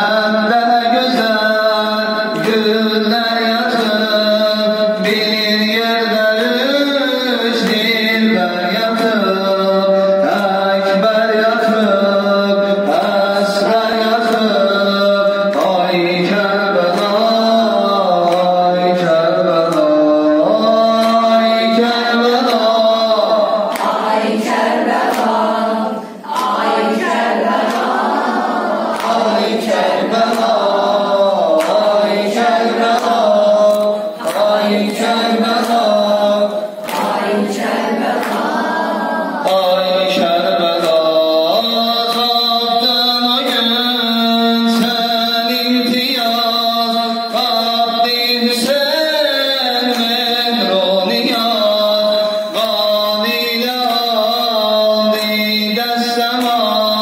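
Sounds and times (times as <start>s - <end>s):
person chanting a lament: 0.0s - 57.0s.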